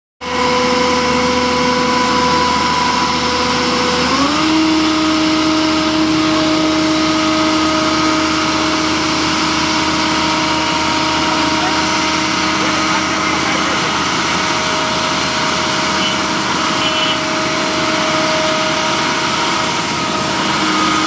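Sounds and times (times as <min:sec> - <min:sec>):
machinery whine: 0:00.2 - 0:21.0
paving machinery engine: 0:00.2 - 0:21.0.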